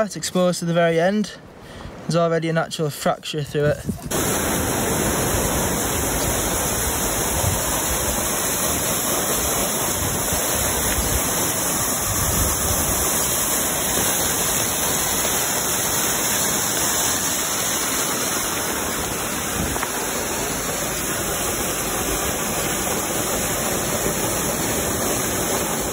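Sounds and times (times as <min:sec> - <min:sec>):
waterfall rushing: 0:04.1 - 0:25.9.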